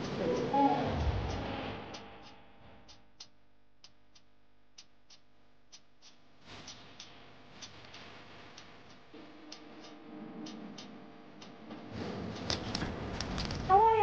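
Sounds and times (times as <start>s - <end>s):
rhythmic ticking: 0.0s - 14.0s.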